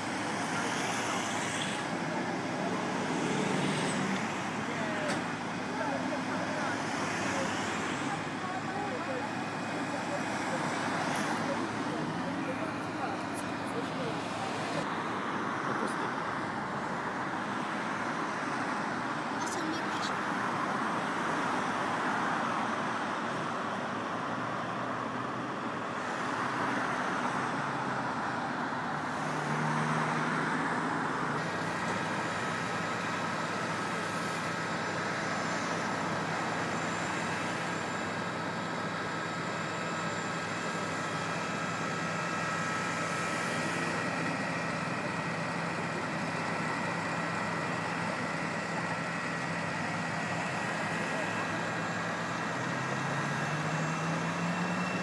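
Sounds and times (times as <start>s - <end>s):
faint engine whine: 0.0s - 55.0s
motorway traffic: 0.0s - 55.0s.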